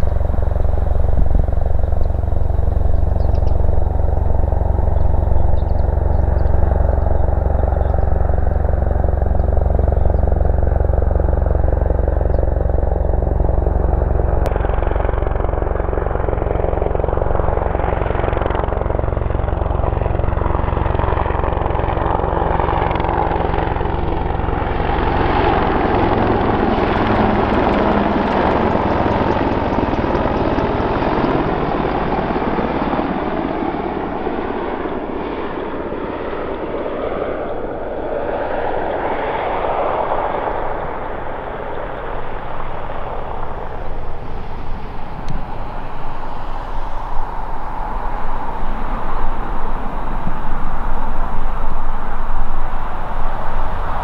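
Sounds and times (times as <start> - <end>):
helicopter rotor beat: 0.0 - 54.0.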